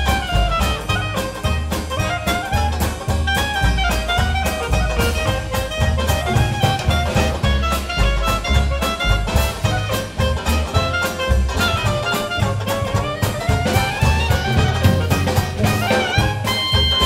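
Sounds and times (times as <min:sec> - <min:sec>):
clarinet melody: 0:00.0 - 0:17.0
jazz band playing: 0:00.0 - 0:17.0.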